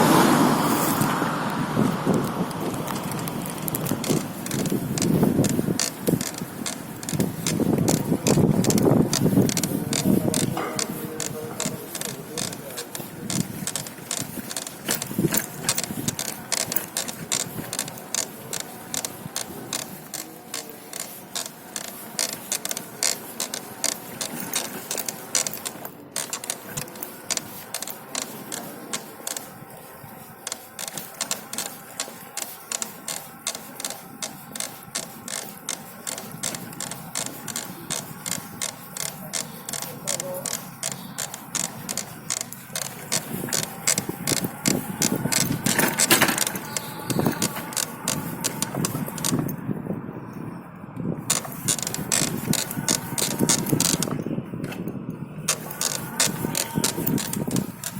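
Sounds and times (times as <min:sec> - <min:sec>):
bicycle drivetrain clicking: 0:00.8 - 0:49.6, 0:51.2 - 0:57.9.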